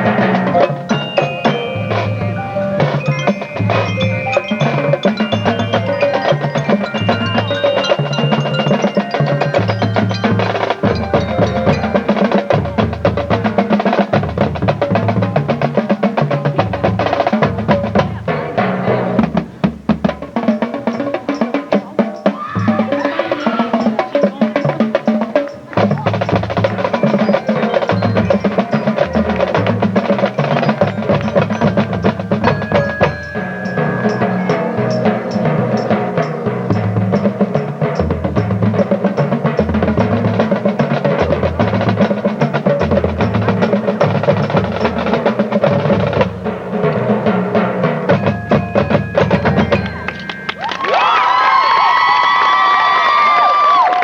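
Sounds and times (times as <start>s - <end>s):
mallet percussion: 0.0s - 52.6s
drumline: 0.0s - 54.0s
marching band playing: 0.0s - 54.0s.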